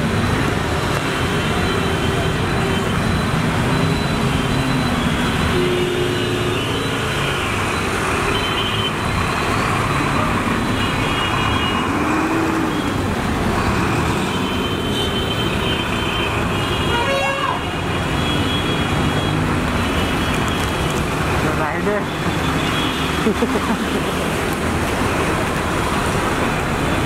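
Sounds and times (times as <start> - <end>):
water washing around wheels: 0.0 - 16.6, 17.7 - 27.0
traffic through floodwater: 0.0 - 27.0.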